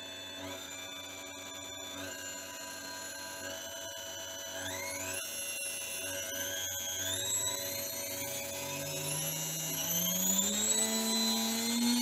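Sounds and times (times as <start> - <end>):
saw motor whining: 0.0 - 12.0.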